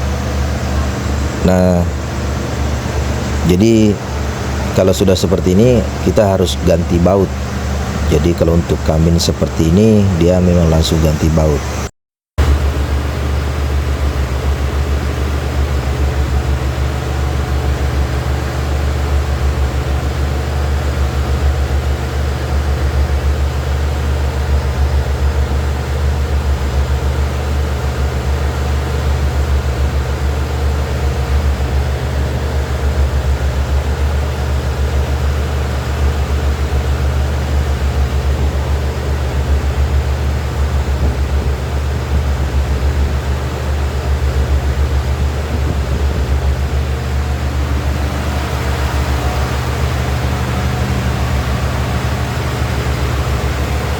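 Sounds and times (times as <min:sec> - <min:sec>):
machine droning with flutter: 0:00.0 - 0:53.9.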